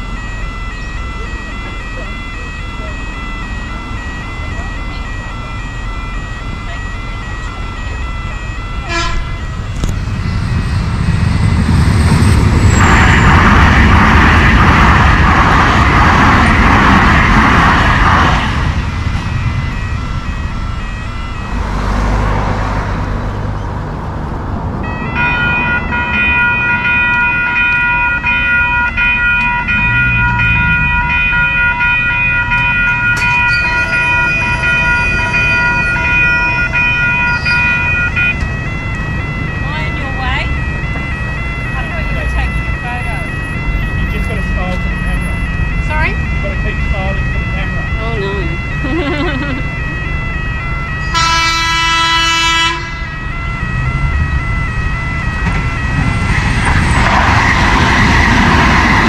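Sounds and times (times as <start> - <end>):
level crossing warning bells: 0.0 - 59.0
train rushing past: 0.0 - 59.0.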